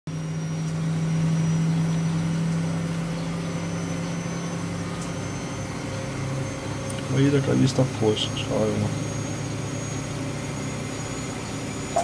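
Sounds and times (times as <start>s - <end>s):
low mechanical hum: 0.1s - 12.0s.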